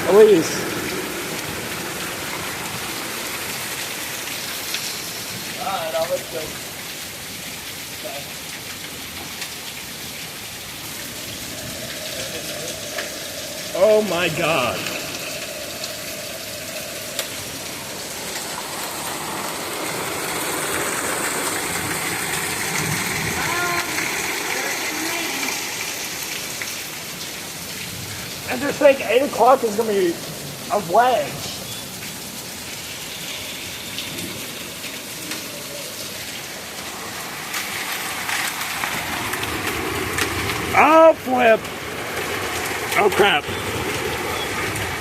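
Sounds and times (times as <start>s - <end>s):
sharp hail strikes: 0.0s - 31.5s, 32.2s - 45.0s
heavy rain and hail hissing: 0.0s - 45.0s.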